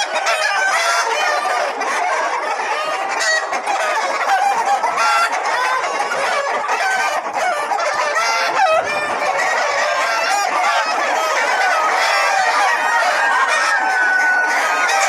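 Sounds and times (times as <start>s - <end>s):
poultry flock clucking and squawking: 0.0s - 15.0s.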